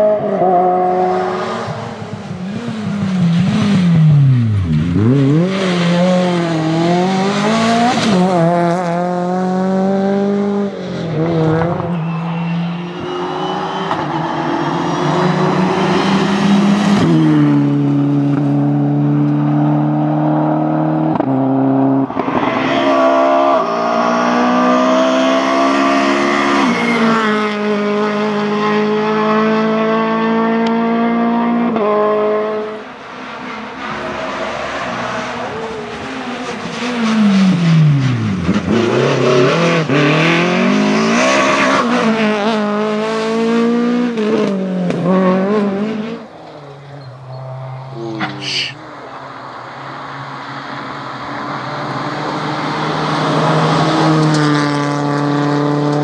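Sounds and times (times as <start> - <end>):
rally car engines revving: 0.0 - 56.0
car passing by: 0.4 - 21.0, 30.8 - 56.0.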